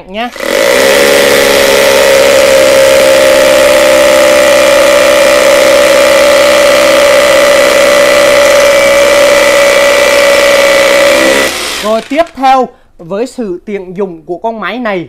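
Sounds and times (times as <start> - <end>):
rotary hammer drilling into concrete: 0.3 - 12.6.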